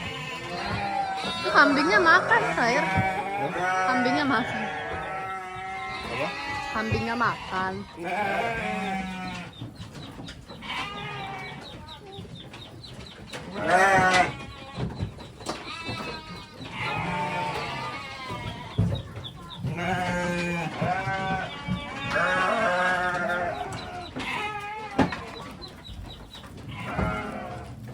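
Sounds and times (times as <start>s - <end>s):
goats bleating: 0.0s - 9.6s, 10.5s - 12.3s, 13.4s - 25.7s, 26.5s - 27.9s.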